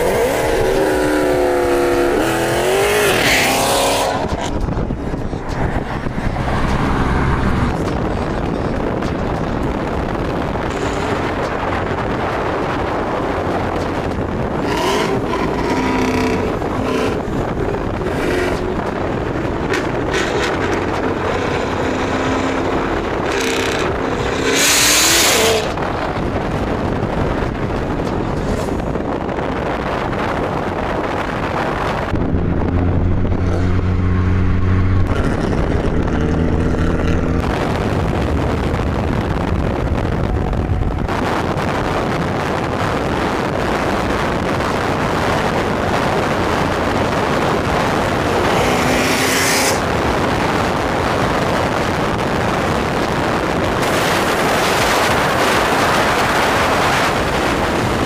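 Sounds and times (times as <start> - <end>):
car engines driving: 0.0 - 58.0
road and wind noise: 0.0 - 58.0.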